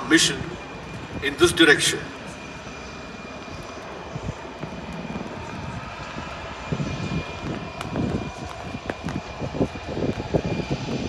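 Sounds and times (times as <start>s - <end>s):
helicopter rotor and engine noise: 0.0s - 11.0s.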